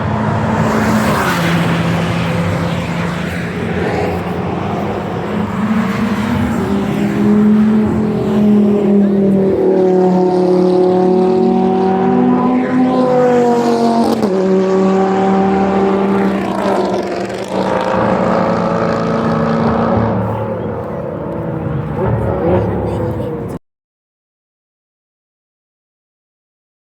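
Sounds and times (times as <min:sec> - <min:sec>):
car engine accelerating hard: 0:00.0 - 0:23.6.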